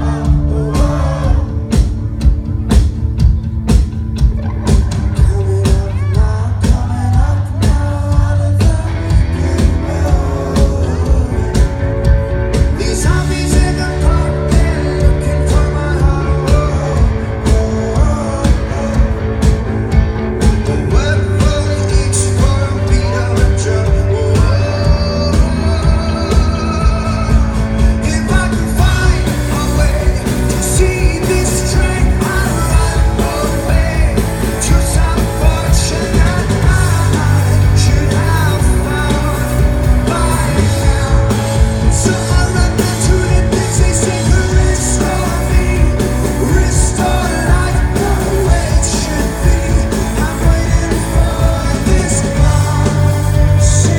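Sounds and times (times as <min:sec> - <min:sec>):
live rock band: 0:00.0 - 0:53.9
person singing lead vocal: 0:00.0 - 0:53.9.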